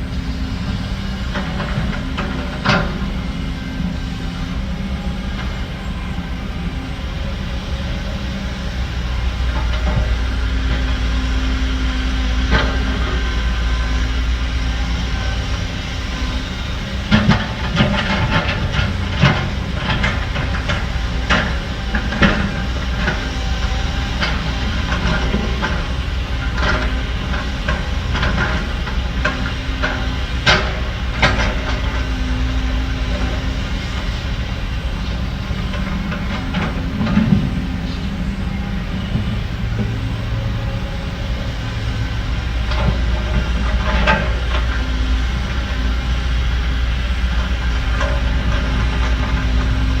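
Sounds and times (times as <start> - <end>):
diesel machinery rumbling: 0.0 - 50.0.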